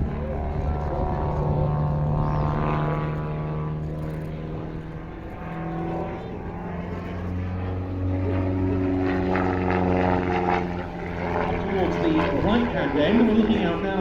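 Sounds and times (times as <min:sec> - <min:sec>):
propeller plane engine: 0:00.0 - 0:14.0.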